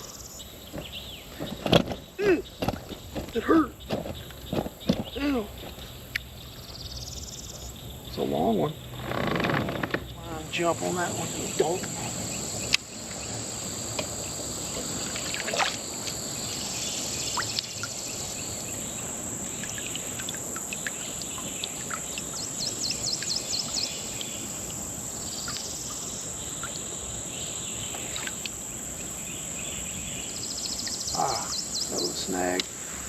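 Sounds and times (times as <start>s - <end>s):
crickets chirping chorus: 0.0s - 33.0s.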